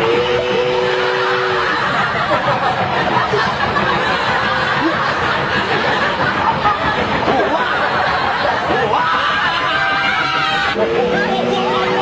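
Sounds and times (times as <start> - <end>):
crowd laughing: 0.0 - 12.0.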